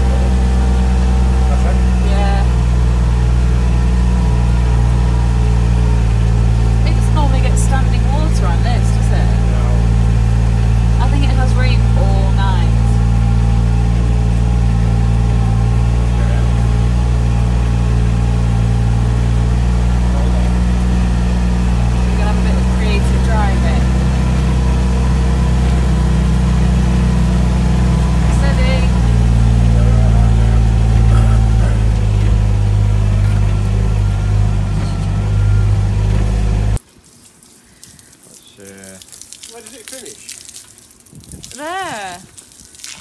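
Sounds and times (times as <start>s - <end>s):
utility vehicle engine running: 0.0s - 36.8s.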